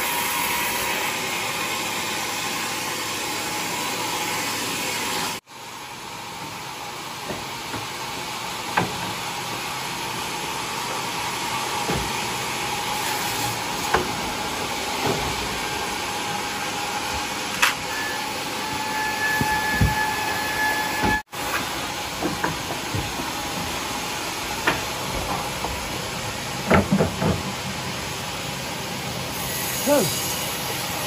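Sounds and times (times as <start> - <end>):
sawmill machinery hissing: 0.0 - 31.0.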